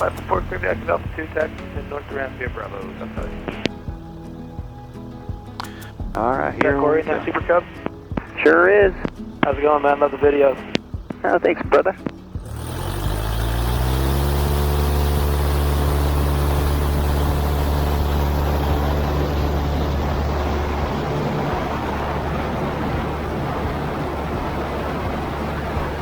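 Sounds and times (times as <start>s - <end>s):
propeller plane engine revving up: 0.0s - 26.0s.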